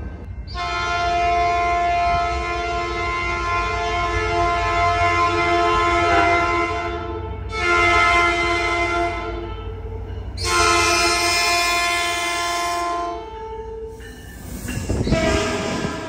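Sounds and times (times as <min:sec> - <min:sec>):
locomotive engine and wheels rumbling: 0:00.0 - 0:16.0
locomotive air horn blasts: 0:00.5 - 0:14.0, 0:14.9 - 0:16.0.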